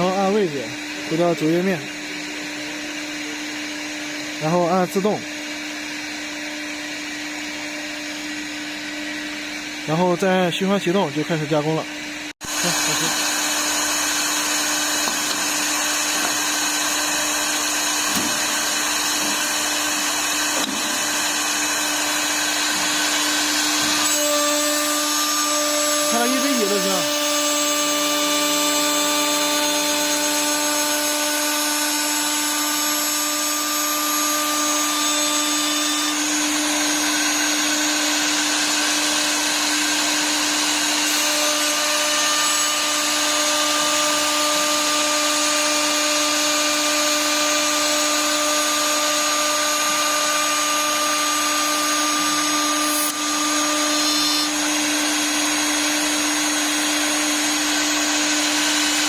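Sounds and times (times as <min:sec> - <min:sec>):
cutter machining wood: 0:00.0 - 0:59.0
wood lathe spindle whine: 0:00.0 - 0:59.0.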